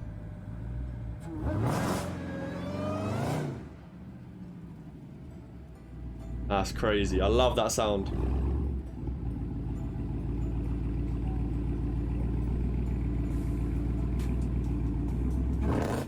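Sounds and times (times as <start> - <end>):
car engine idling: 0.0 - 1.7, 2.5 - 16.0.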